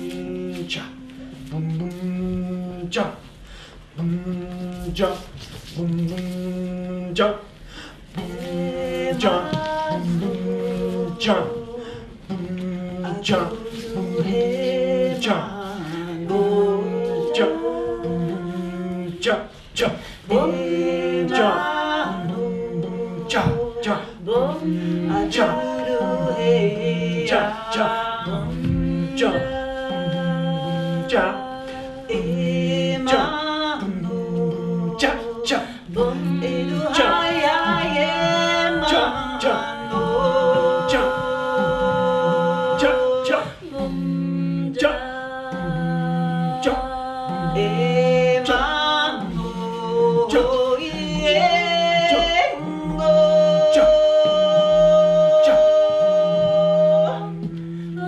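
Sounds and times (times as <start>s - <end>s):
sustained higher vocal lines: 4.0s - 58.0s.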